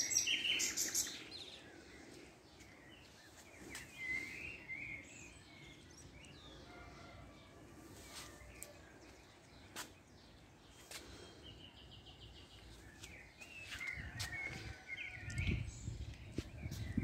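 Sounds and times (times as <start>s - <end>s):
small birds chirping: 0.0s - 7.2s, 7.8s - 17.0s.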